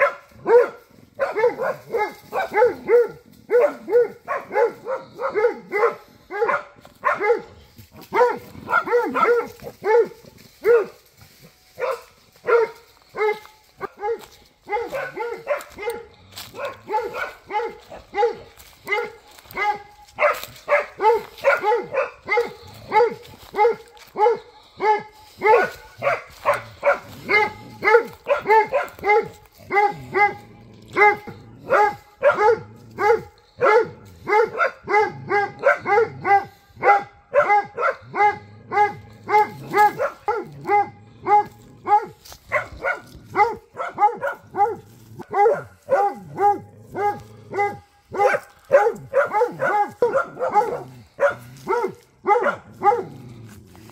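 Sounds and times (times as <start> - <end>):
dog barking rapidly: 0.0 - 53.2.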